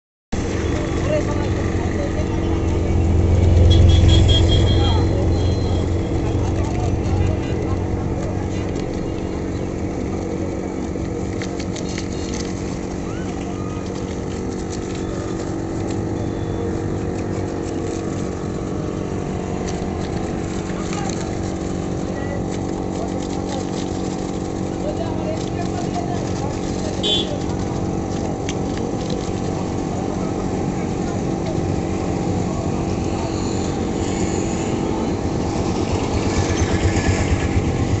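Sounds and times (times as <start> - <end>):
motor running steadily: 0.4 - 38.0.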